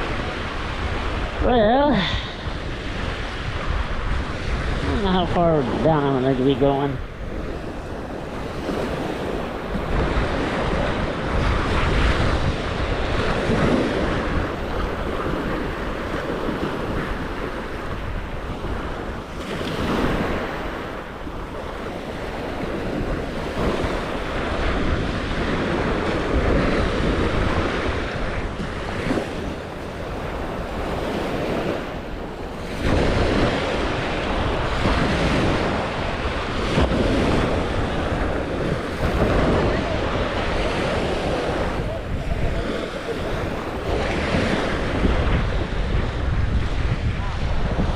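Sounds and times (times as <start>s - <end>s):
waves washing onto beach: 0.0s - 47.9s
wind buffeting microphone: 0.0s - 47.9s.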